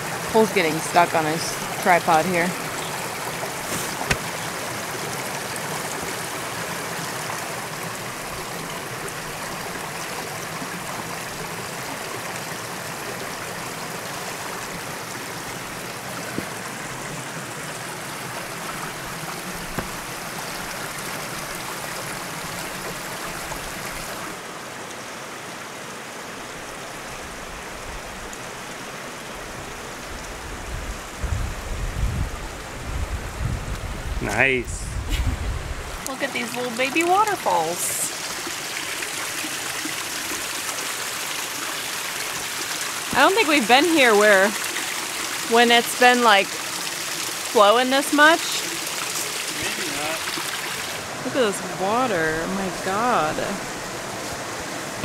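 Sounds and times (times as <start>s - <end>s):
water rushing over rocks: 0.0s - 31.2s, 35.8s - 55.0s.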